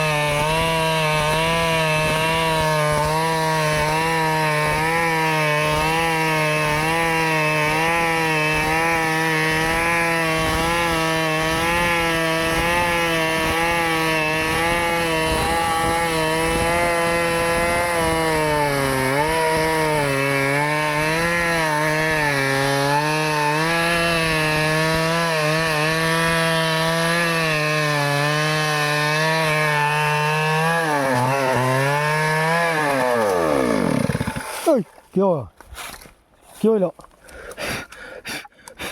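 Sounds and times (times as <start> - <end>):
chainsaw cutting a tree: 0.0 - 35.0.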